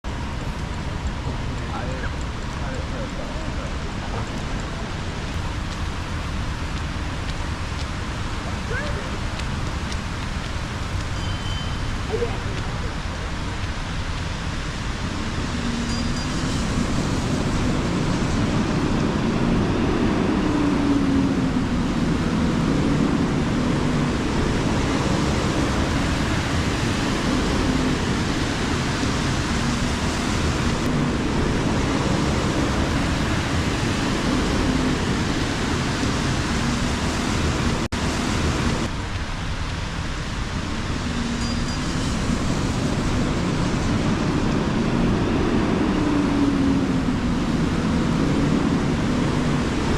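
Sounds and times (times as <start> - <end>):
traffic engines humming: 0.0 - 49.9
tyres on wet road: 0.0 - 49.9
rain hiss: 0.1 - 49.9.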